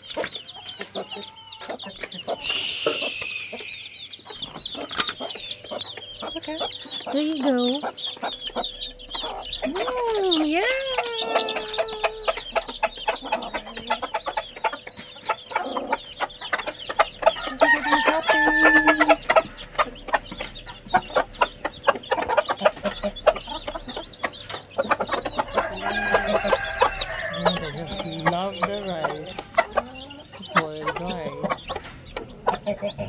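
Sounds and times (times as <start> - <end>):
chickens clucking: 0.0 - 33.0
chicks peeping: 0.0 - 33.0
drawn-out chicken call: 0.0 - 33.0.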